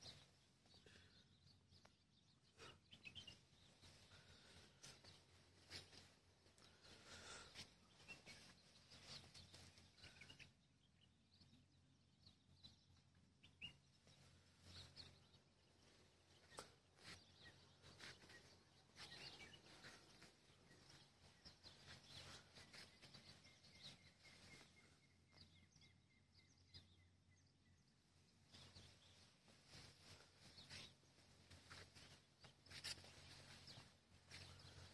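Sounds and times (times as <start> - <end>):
faint bird chirps: 0.0 - 34.9.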